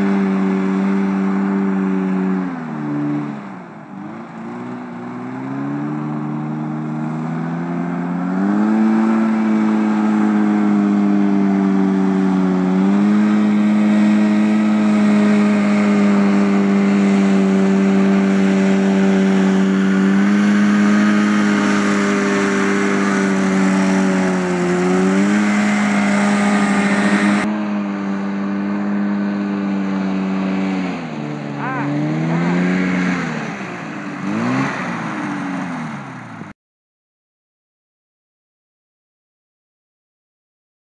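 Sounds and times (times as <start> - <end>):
two-stroke engine running hard: 0.0 - 36.5.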